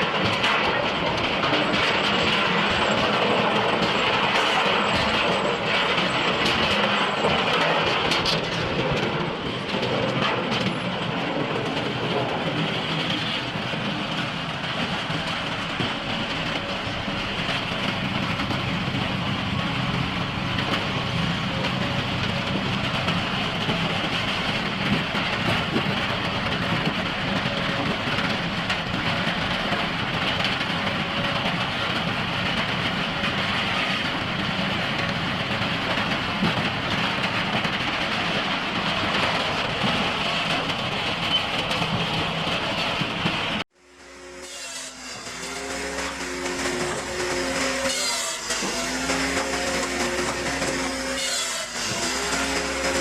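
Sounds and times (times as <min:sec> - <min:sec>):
machinery running: 0:00.0 - 0:53.0.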